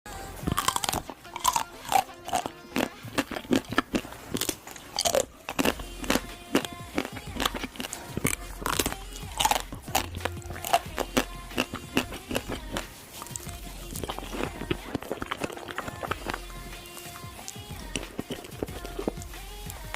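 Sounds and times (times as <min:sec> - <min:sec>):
crunchy biting and chewing: 0:00.1 - 0:19.9
faint music: 0:00.1 - 0:19.9.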